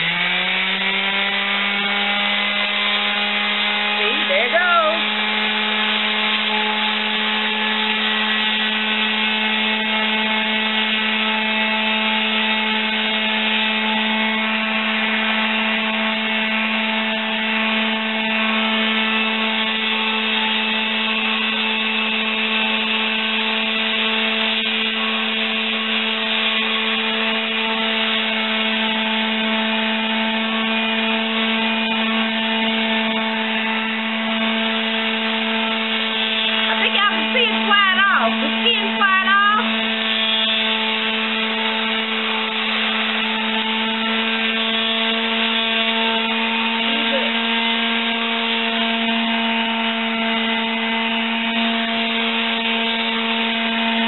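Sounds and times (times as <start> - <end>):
electric sander motor hum: 0.0 - 54.0.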